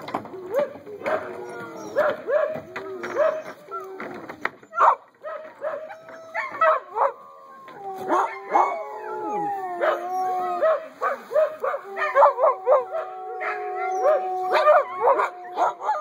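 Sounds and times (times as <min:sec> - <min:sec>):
puppies yipping and barking: 0:00.0 - 0:07.3, 0:08.0 - 0:16.0
puppies howling: 0:00.0 - 0:16.0.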